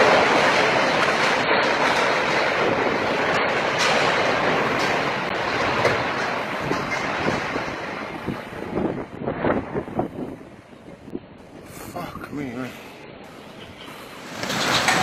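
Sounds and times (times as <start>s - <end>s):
storm wind rushing: 0.0s - 15.0s.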